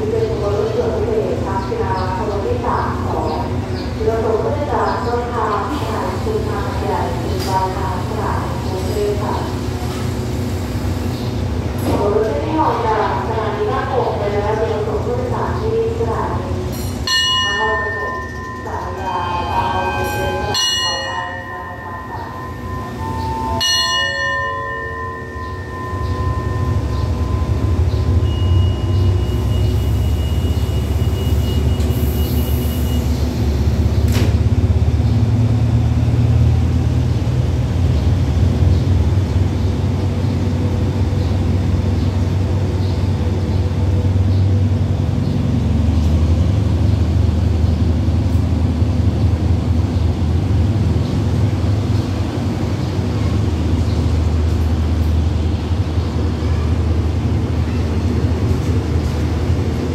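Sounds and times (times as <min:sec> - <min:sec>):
diesel train rumble: 0:00.0 - 0:59.9.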